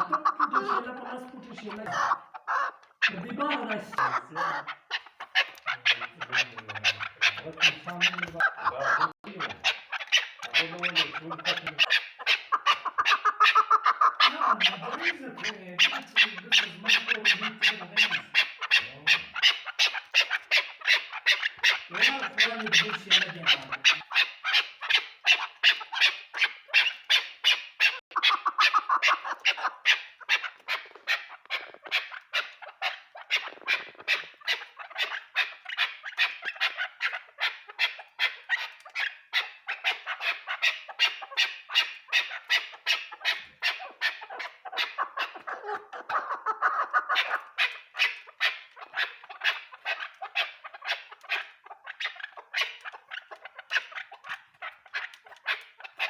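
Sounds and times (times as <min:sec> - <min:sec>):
partridge calling: 0:00.0 - 0:56.0.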